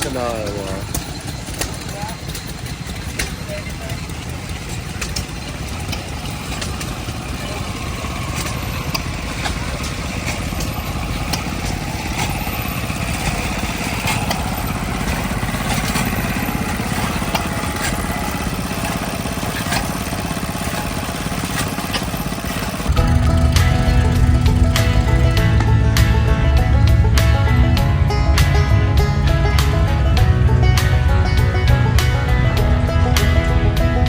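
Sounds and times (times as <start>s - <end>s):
engine chugging: 0.0s - 34.0s.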